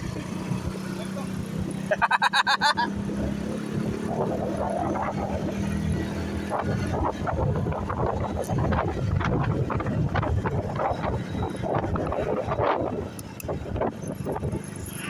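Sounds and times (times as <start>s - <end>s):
motorcycle engine running: 0.0s - 15.0s
wind buffeting microphone: 2.9s - 15.0s.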